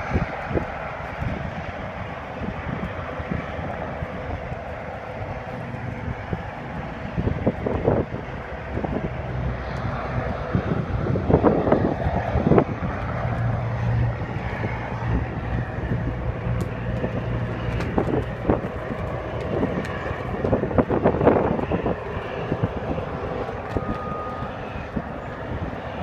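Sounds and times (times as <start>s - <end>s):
machinery humming: 0.0s - 26.0s
wind gusting on microphone: 0.0s - 26.0s.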